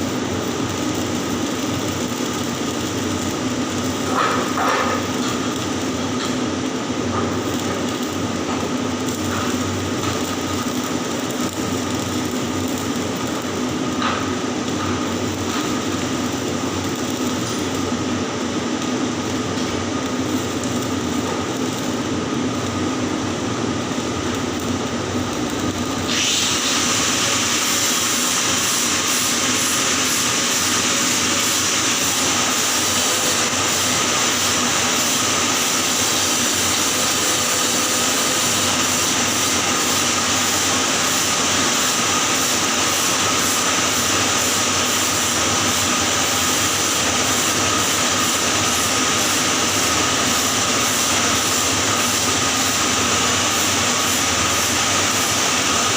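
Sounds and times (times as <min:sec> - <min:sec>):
electric arc welding hiss: 0:00.0 - 0:55.9.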